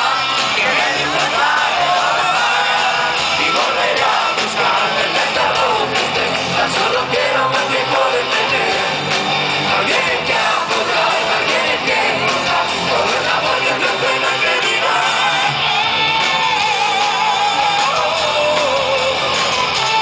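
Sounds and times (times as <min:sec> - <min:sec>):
lead singer's voice: 0:00.0 - 0:20.0
live metal band: 0:00.0 - 0:20.0.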